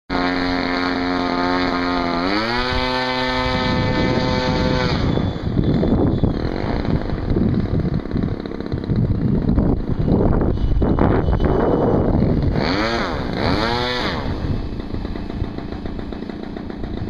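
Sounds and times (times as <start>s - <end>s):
model jet fan whining: 0.1s - 17.0s
wind on microphone: 1.3s - 15.9s.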